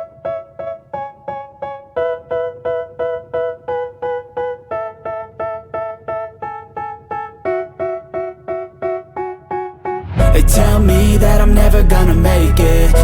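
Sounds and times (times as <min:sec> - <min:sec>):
hip-hop piano chord loop: 0:00.0 - 0:13.0.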